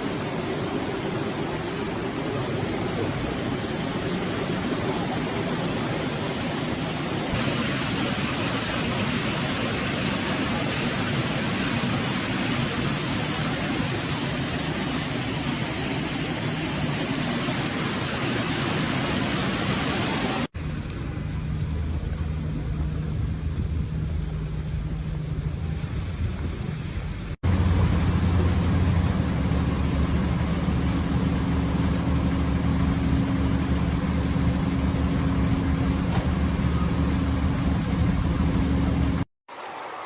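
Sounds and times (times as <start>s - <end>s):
vehicle engine humming: 0.0s - 39.3s
rushing noise: 0.0s - 40.0s.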